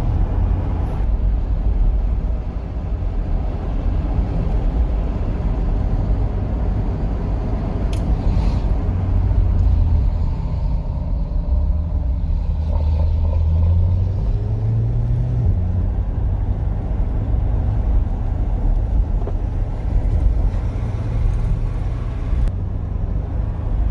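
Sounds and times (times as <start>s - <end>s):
car exhaust rumble: 0.0s - 23.9s.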